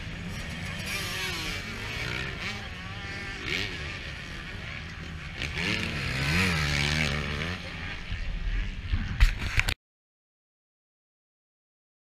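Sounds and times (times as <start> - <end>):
motocross bike engine revving: 0.0 - 9.7.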